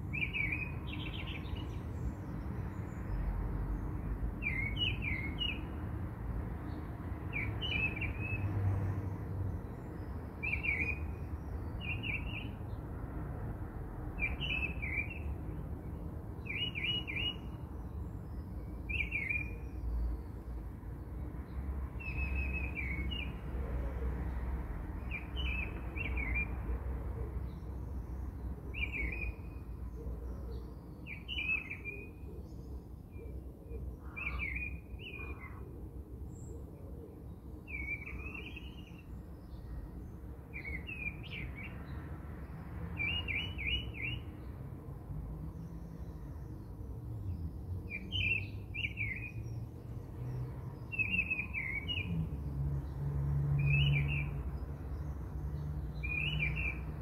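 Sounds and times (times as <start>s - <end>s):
small birds chirping: 0.0s - 5.8s, 6.6s - 13.0s, 14.1s - 23.6s, 25.0s - 26.7s, 27.3s - 35.6s, 37.2s - 44.5s, 45.5s - 57.0s.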